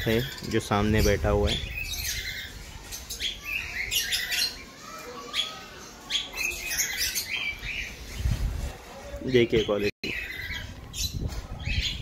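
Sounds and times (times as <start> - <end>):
lovebirds chirping and squawking: 0.0 - 12.0.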